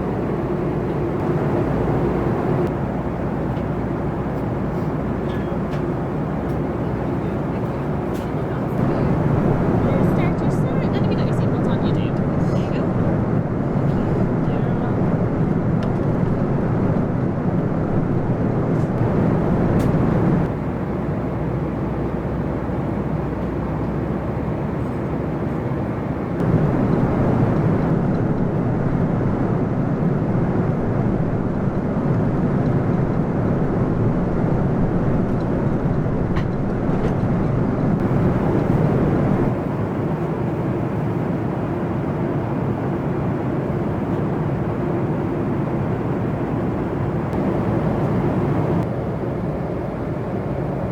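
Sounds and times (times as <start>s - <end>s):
airliner cabin noise: 0.0s - 15.2s, 18.7s - 28.1s, 32.1s - 50.9s.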